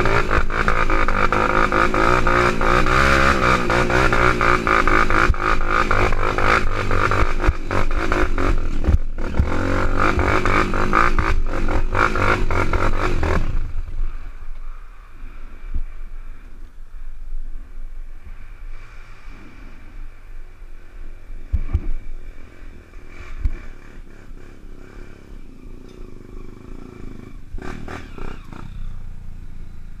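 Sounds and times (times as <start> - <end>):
motorcycle engine running: 0.0 - 16.4, 21.4 - 30.0.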